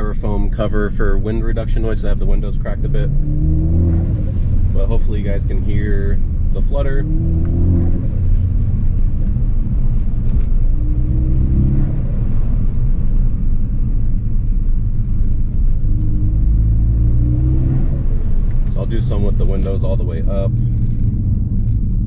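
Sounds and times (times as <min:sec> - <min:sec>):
car engine accelerating: 0:00.0 - 0:22.0
road rumble: 0:00.0 - 0:22.0.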